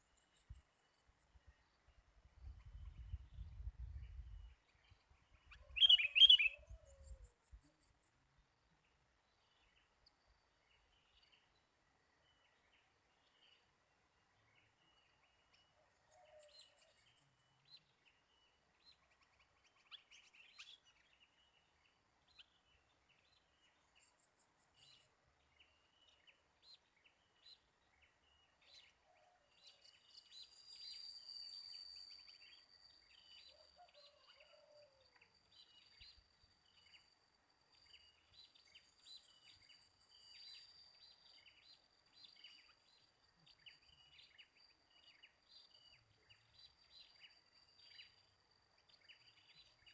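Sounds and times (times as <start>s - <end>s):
bird chirps: 0.0s - 8.2s, 14.4s - 49.9s.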